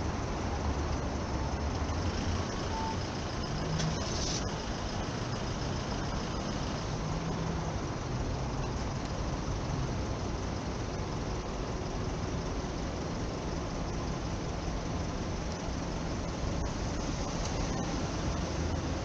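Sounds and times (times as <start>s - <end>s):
vehicles passing with engine drone: 0.0s - 19.0s.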